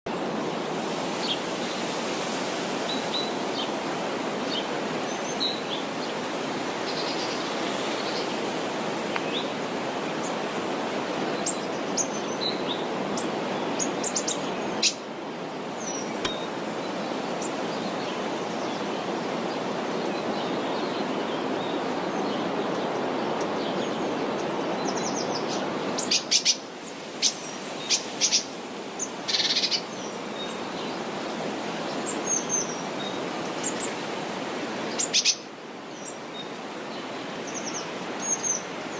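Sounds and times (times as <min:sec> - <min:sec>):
songbirds chirping: 0:00.1 - 0:38.9.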